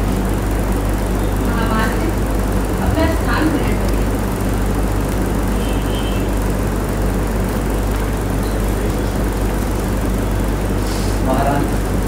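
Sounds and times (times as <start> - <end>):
electrical hum: 0.0 - 12.0
ventilation hiss: 0.0 - 12.0.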